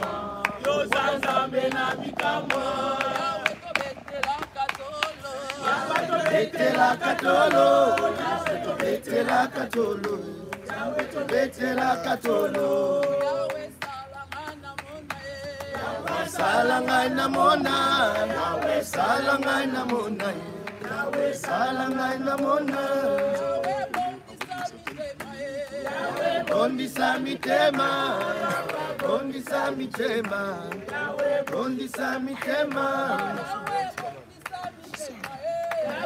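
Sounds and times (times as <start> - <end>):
group singing a hymn: 0.0 - 36.0.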